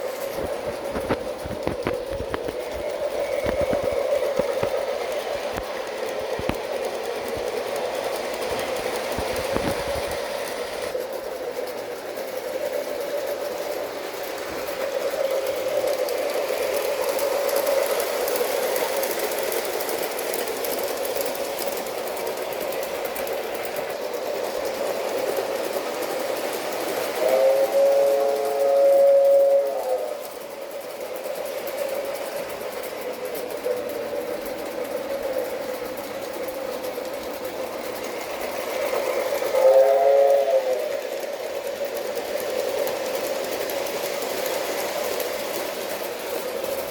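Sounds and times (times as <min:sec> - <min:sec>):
model train running on track: 0:00.0 - 0:46.9
model train sound effects: 0:00.0 - 0:46.9.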